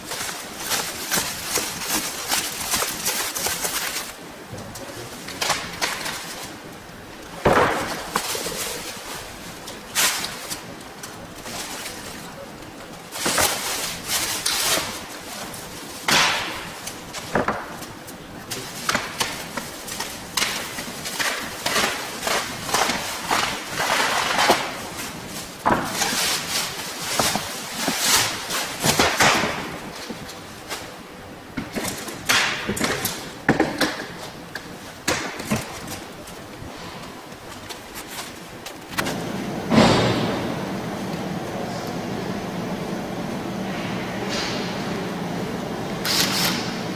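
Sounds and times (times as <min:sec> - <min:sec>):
plastic wrapping rustling: 0:00.0 - 0:41.9.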